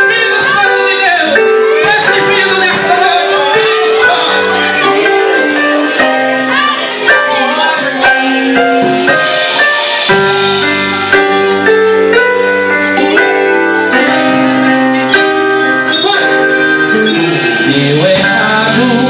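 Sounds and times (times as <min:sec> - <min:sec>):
band playing music: 0:00.0 - 0:19.0.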